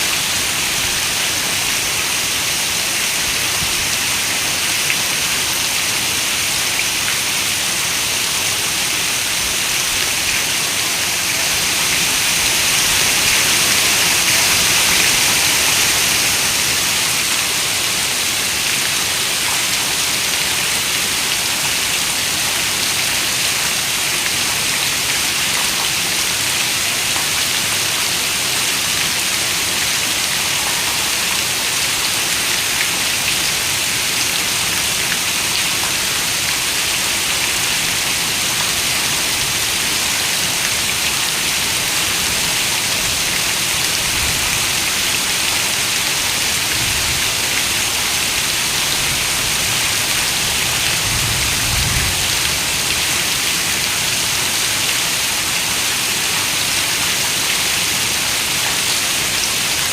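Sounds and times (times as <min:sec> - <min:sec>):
heavy rain on a window: 0:00.1 - 0:59.9.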